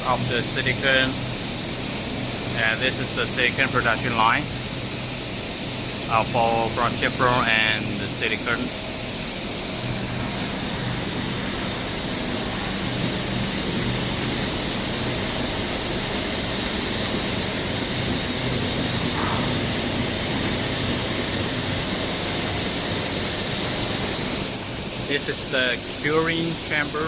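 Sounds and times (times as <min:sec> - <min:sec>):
low mechanical hum: 0:00.0 - 0:27.0
machinery hissing: 0:00.0 - 0:27.0.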